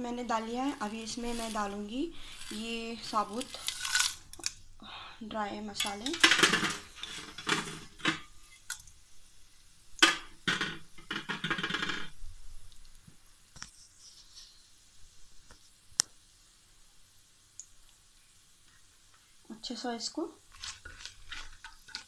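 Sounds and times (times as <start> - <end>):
spices crackling in hot oil: 0.0 - 4.8, 5.4 - 22.0.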